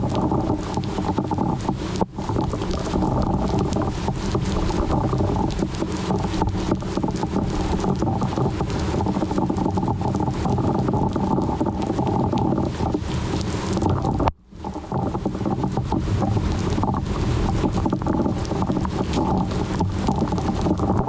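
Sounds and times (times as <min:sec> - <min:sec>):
microphone buffeting crackles: 0:00.0 - 0:21.0
wind rushing over microphone: 0:00.0 - 0:21.0.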